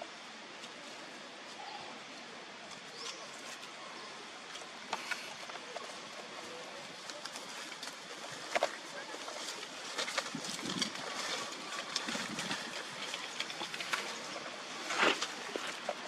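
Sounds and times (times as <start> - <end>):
steady outdoor hiss: 0.0 - 16.0
dry leaves crackling: 2.8 - 16.0.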